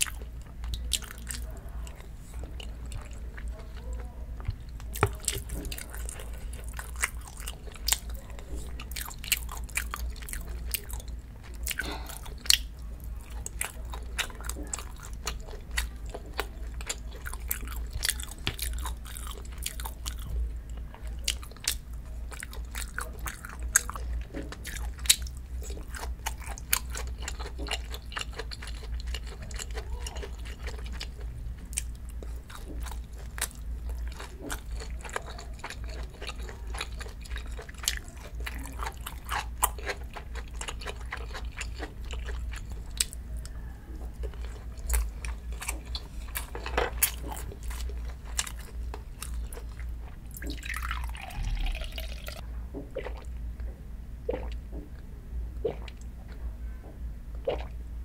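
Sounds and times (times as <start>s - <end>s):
chewing and crunching food: 0.0s - 57.8s
steady low hum: 0.0s - 58.0s.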